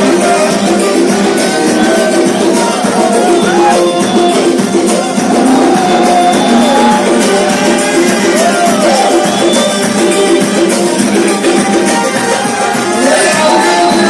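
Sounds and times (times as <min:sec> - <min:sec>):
held accompaniment notes: 0:00.0 - 0:14.0
ornamented sliding melody: 0:00.0 - 0:14.0.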